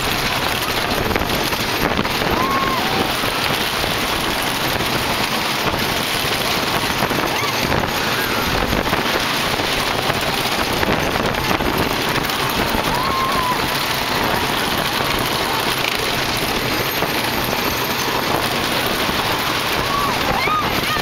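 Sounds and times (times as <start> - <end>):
faint voices: 0.0 - 21.0
roller coaster rumbling on track: 0.0 - 21.0
wind on microphone: 0.0 - 21.0.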